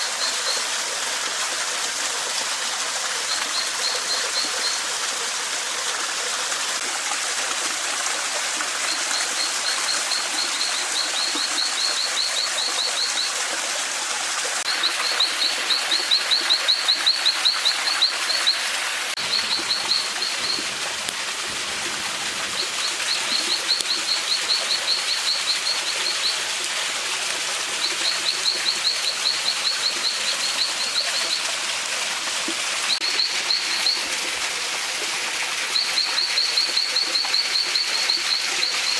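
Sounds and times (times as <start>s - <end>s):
forest stream rushing: 0.0s - 38.9s.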